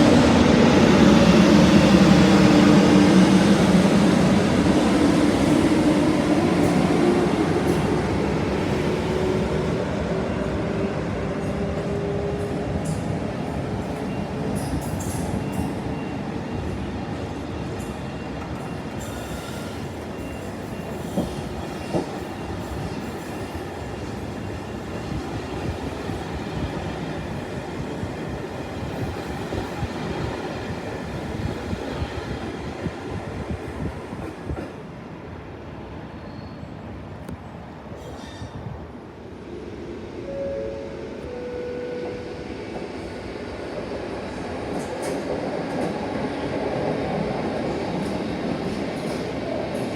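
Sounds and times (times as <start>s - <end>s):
train wheels rumbling on track: 0.0s - 35.2s, 41.3s - 49.9s.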